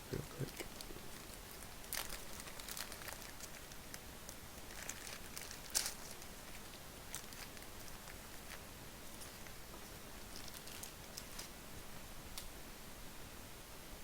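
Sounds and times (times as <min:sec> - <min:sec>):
plastic sleeve crinkling: 0:00.1 - 0:11.6.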